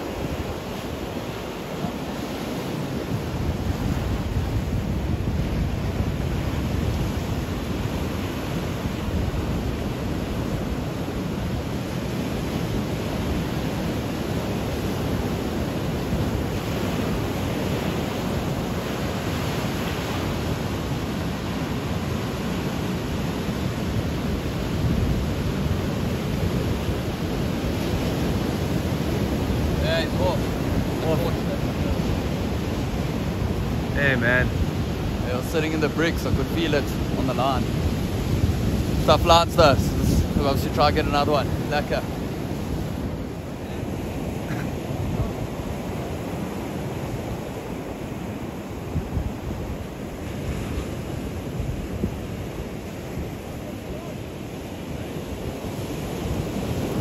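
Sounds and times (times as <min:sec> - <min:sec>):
ocean surf breaking over rocks: 0:00.0 - 0:57.0
wind buffeting microphone: 0:00.0 - 0:57.0.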